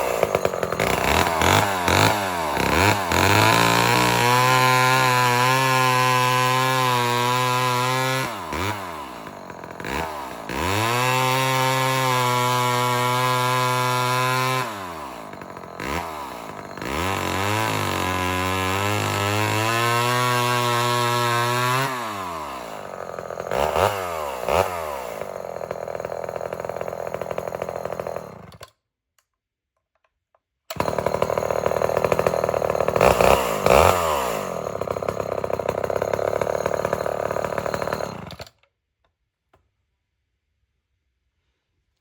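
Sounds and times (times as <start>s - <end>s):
chainsaw revving: 0.0s - 28.7s, 30.7s - 38.6s.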